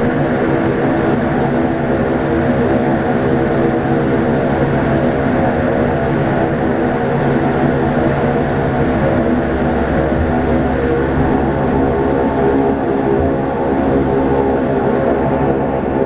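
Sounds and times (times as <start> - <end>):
turboprop engines droning in cabin: 0.0 - 16.0.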